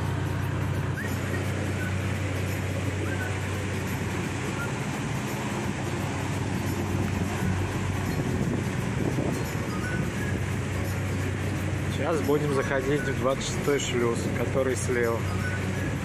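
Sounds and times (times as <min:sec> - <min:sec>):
ship engine droning: 0:00.0 - 0:16.0.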